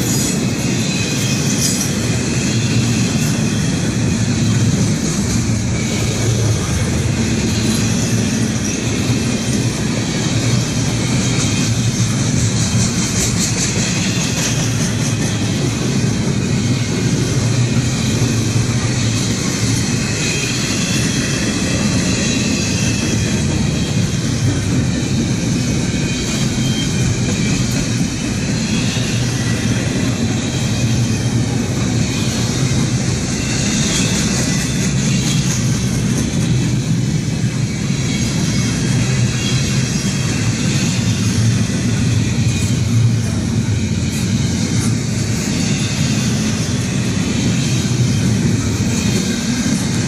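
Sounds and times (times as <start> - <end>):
freight train rolling past: 0.0 - 50.0.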